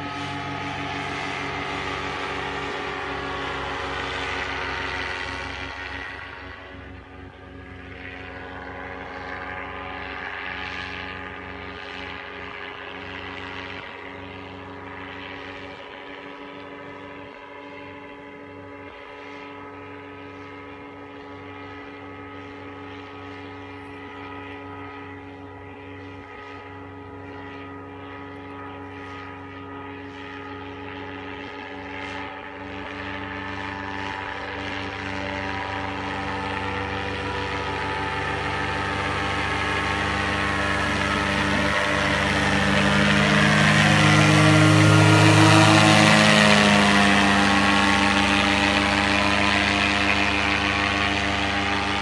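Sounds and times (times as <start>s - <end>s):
propeller aircraft engine running: 0.0s - 52.0s.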